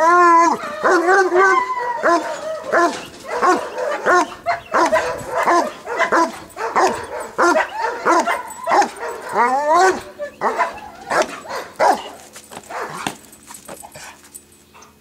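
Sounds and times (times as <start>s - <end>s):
dog barking: 0.5s - 13.2s.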